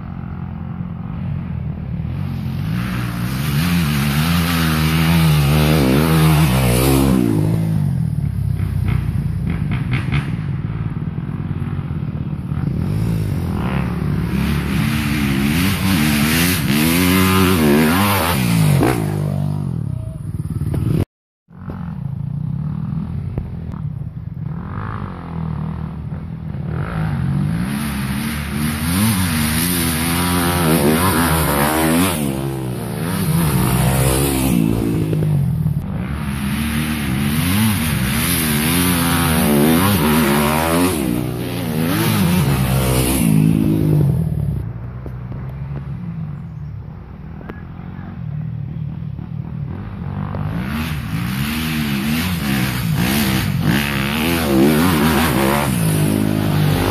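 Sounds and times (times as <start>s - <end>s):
dirt bike engine revving: 0.0s - 44.6s, 49.6s - 56.9s.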